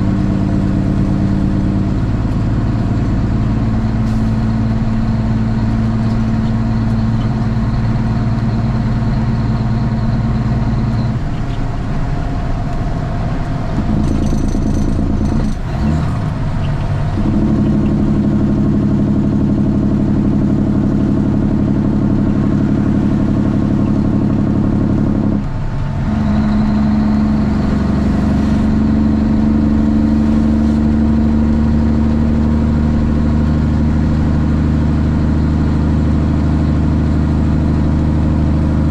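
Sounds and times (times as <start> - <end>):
diesel truck engine changing gears: 0.0 - 38.9.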